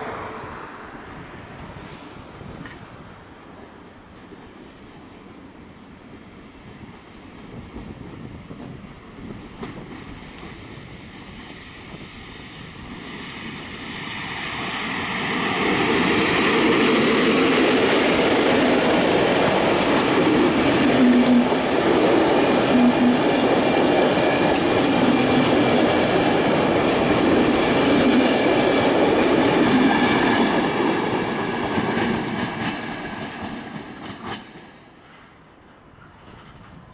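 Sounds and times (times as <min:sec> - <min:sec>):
passenger train passing: 0:00.0 - 0:36.9.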